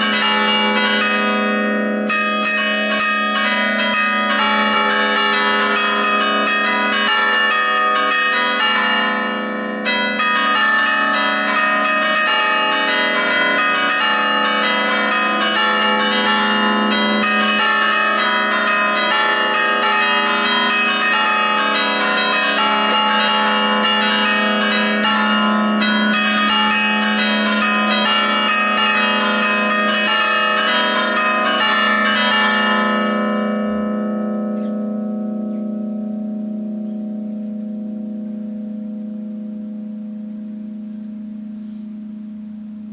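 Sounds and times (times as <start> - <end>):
church bells chiming: 0.0 - 42.9.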